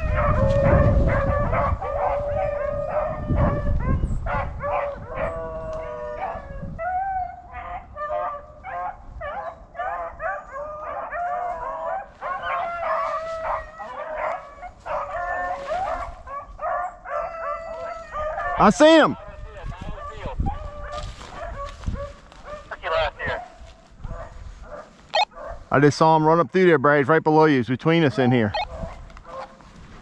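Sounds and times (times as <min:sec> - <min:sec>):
beagles baying: 0:00.0 - 0:25.7, 0:28.1 - 0:29.7.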